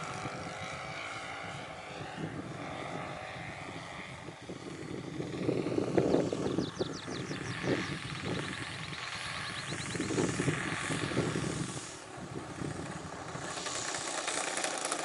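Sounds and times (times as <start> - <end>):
model plane engine in flight: 0.0 - 15.0.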